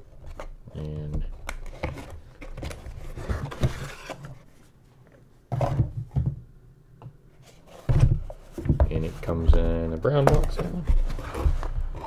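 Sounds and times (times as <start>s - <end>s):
cardboard rustling and scraping: 1.1s - 6.4s, 7.4s - 12.0s.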